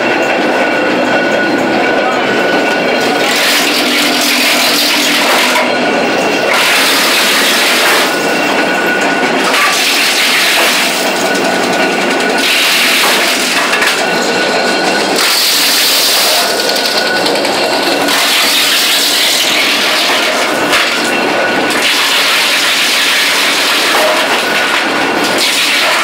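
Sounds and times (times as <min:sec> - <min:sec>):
wood chipper chipping branches: 0:00.0 - 0:26.0.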